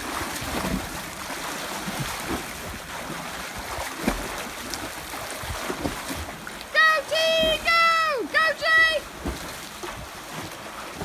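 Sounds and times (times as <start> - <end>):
soft splashes: 0.0 - 11.0
water washing in pool: 0.0 - 11.0.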